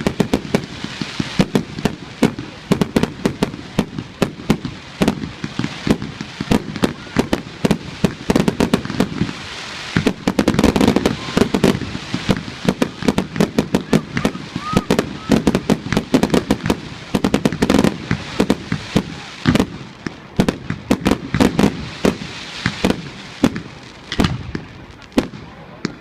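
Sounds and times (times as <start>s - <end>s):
fireworks bangs and cracks: 0.0s - 26.0s.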